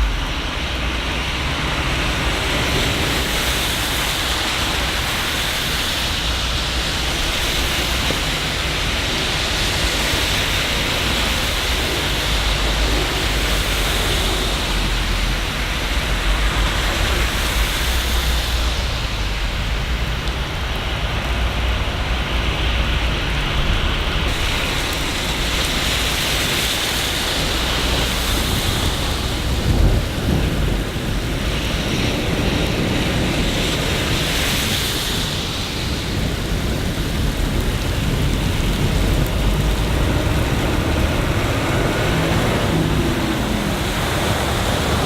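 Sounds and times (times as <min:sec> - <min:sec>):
continuous low rumble: 0:00.0 - 0:45.0
steady rain falling: 0:00.0 - 0:45.0.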